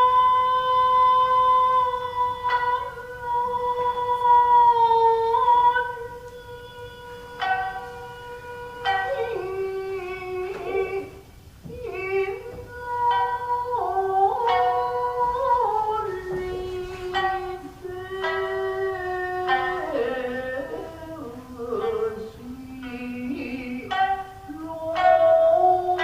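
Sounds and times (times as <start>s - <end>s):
shamisen plucks: 0.0s - 26.0s.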